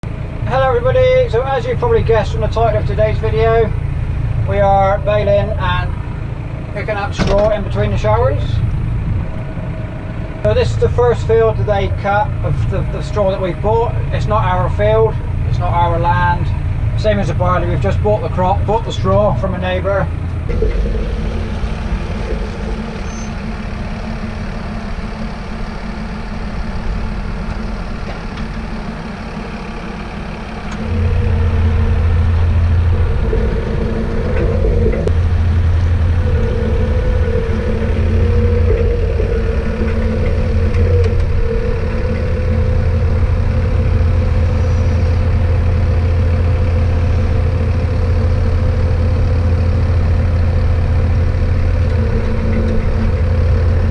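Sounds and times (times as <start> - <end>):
tractor engine droning: 0.0 - 53.9.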